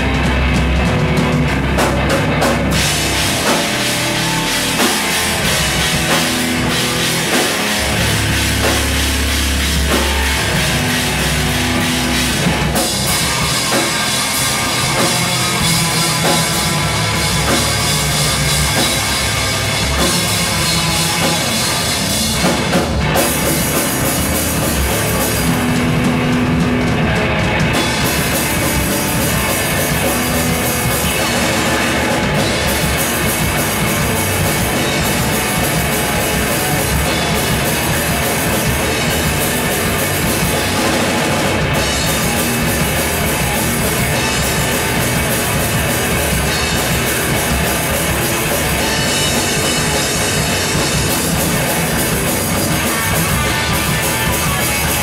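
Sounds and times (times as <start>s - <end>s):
drum kit with cymbals: 0.0s - 55.0s
electric guitars: 0.0s - 55.0s
live rock band playing: 0.0s - 55.0s.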